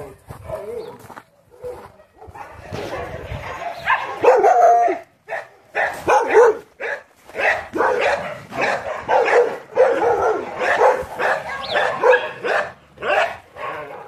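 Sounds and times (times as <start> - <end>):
dogs barking: 0.0 - 14.0.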